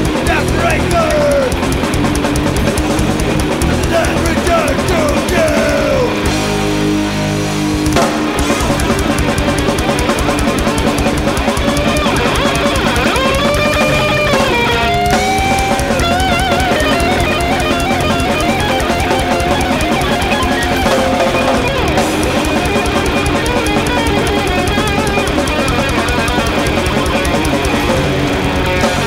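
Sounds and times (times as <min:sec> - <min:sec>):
high bending lead guitar: 0:00.0 - 0:29.0
metal band playing live: 0:00.0 - 0:29.0.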